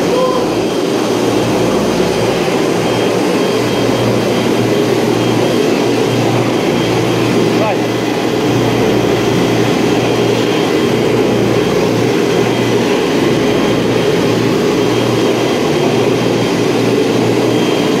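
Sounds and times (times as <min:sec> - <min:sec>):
floor sander droning: 0:00.0 - 0:18.0.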